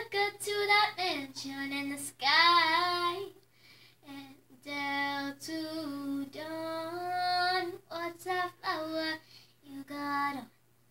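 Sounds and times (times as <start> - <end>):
girl singing unaccompanied: 0.0 - 3.4, 4.0 - 10.6.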